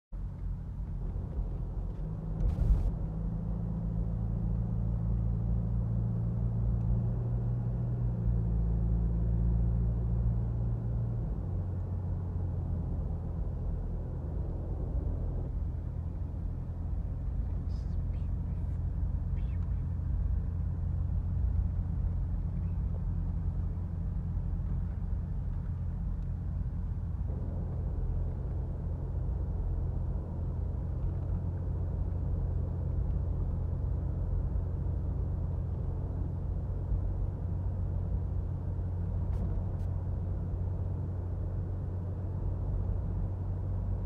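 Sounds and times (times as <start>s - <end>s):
car engine rumble: 0.1s - 44.0s
tyre road noise: 0.2s - 44.0s.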